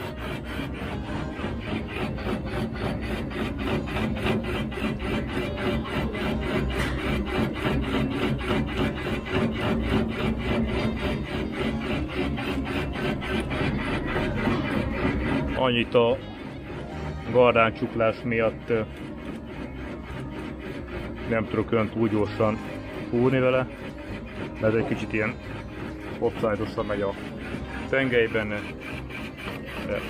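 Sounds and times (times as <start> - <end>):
boring bar scraping steel: 0.0 - 30.0.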